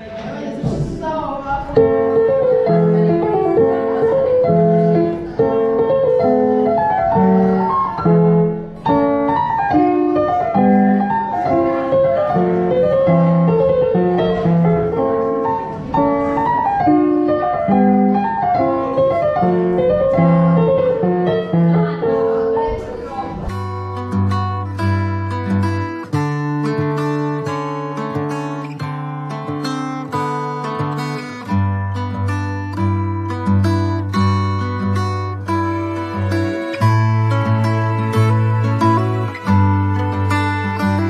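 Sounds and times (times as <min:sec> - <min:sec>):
digital piano melody: 0:01.5 - 0:41.0.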